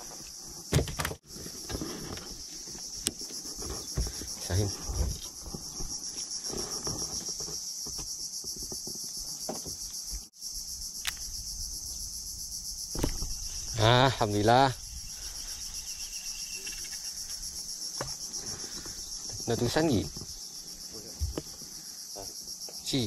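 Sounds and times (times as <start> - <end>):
insect chorus trilling: 0.0 - 23.0.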